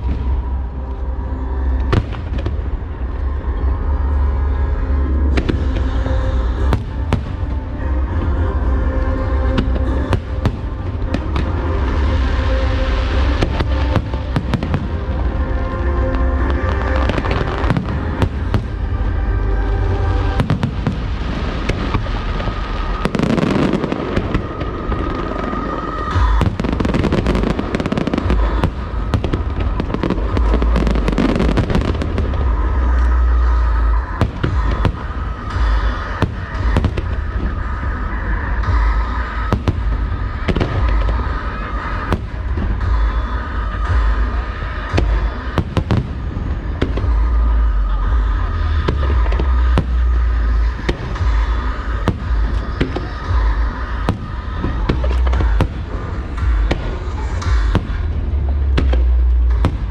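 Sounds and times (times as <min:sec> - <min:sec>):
fireworks cracking and booming: 0:00.0 - 0:59.9
loud music: 0:00.0 - 0:59.9.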